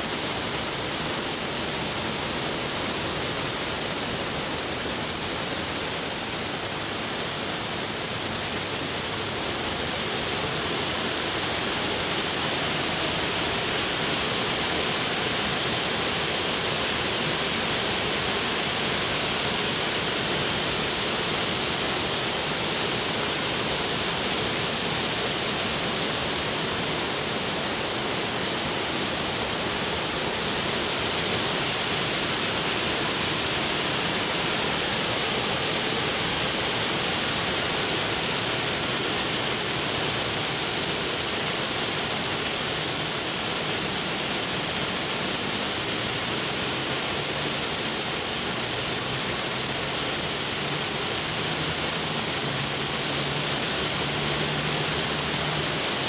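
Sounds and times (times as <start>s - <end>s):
high-pitched whine: 0.0s - 56.0s.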